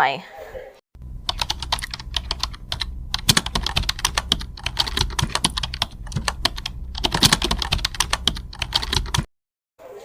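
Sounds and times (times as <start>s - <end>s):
rapid irregular clicking: 1.0s - 9.3s.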